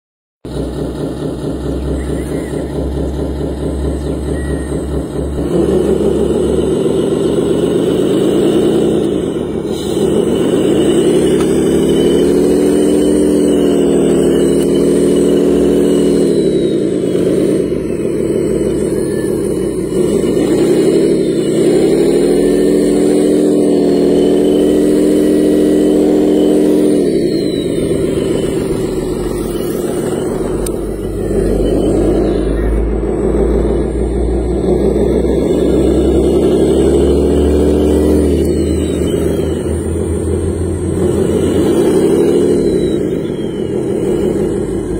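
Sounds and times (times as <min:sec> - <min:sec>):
wheel loader motor humming: 0:00.5 - 0:44.9.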